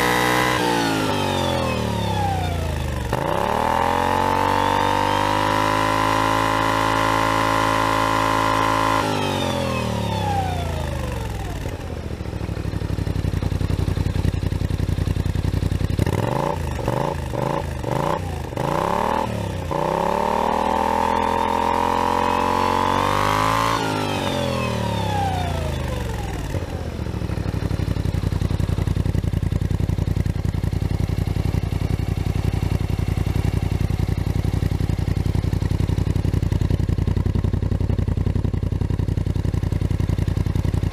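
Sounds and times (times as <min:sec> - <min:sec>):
scooter engine idling: 0:00.0 - 0:06.0, 0:07.4 - 0:23.2, 0:23.8 - 0:40.9
scooter engine revving: 0:00.0 - 0:40.9.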